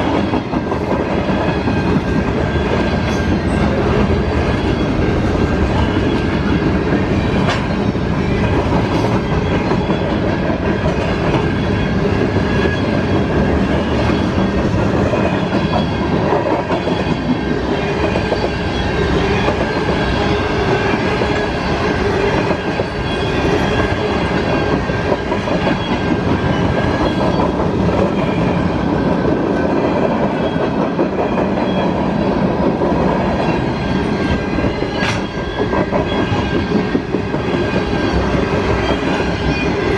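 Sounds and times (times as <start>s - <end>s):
freight train wheels clacking: 0.0s - 39.9s
train rumble: 0.0s - 39.9s
high ringing tone: 2.3s - 29.5s, 33.4s - 39.9s.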